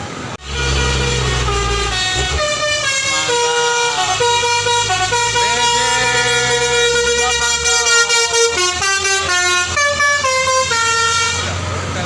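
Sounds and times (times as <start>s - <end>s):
bus engine running: 0.0s - 12.0s
musical air horn playing a tune: 0.4s - 11.5s.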